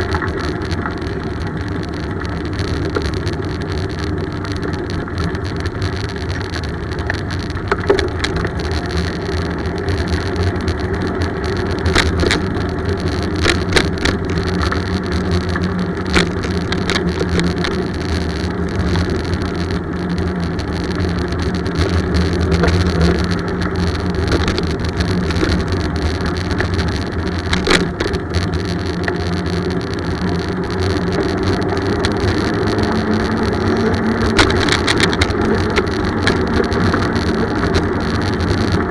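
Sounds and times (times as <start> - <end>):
bicycle road and wind rumble: 0.0 - 38.9
sharp clicks and rattles: 0.0 - 38.9.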